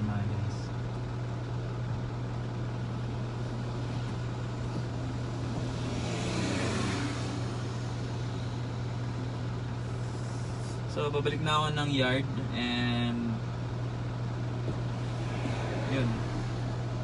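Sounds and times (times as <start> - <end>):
truck engine low hum: 0.0 - 17.0.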